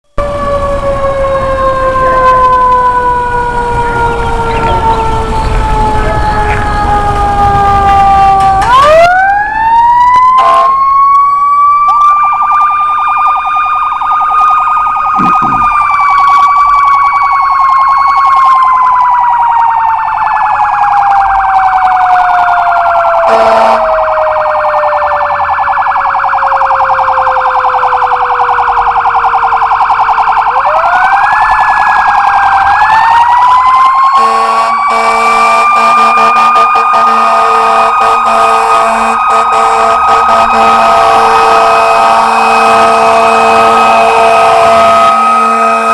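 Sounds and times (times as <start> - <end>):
electronic siren cycling: 0.1 - 45.9.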